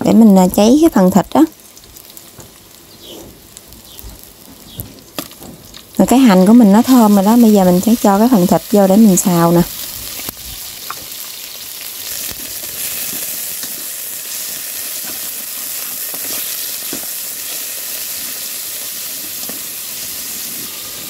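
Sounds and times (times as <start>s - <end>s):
meat sizzling in hot oil: 0.4s - 21.0s.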